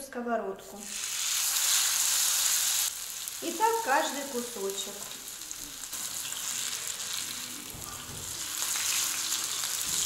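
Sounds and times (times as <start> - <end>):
oil sizzling in a frying pan: 0.7 - 10.0.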